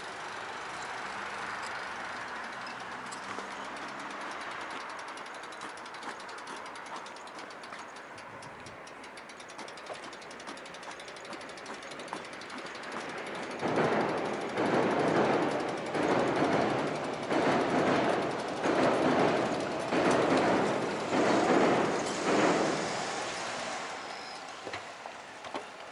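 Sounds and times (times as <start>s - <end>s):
rhythmic clatter of train wheels: 0.0s - 25.9s
train running noise: 0.0s - 25.9s.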